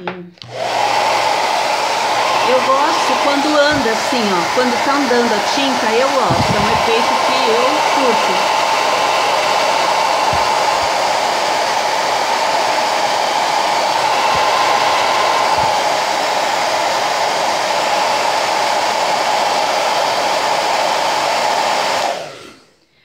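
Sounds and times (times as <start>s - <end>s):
hair dryer running: 0.4s - 22.9s.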